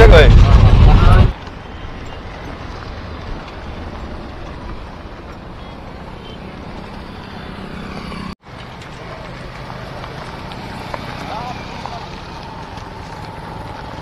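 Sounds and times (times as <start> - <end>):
auto-rickshaw running inside: 0.0 - 14.0.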